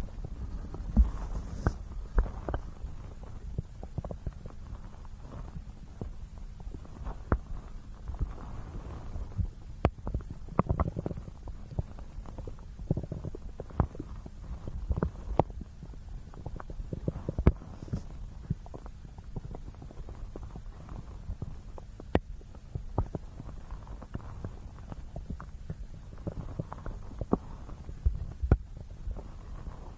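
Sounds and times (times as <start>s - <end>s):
stomach gurgling and growling: 0.0s - 29.9s.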